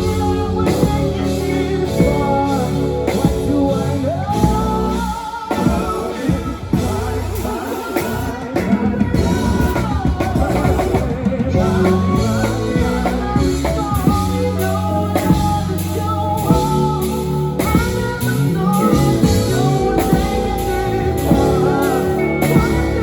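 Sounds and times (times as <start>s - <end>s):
song with drums bass and singing: 0.0s - 23.0s.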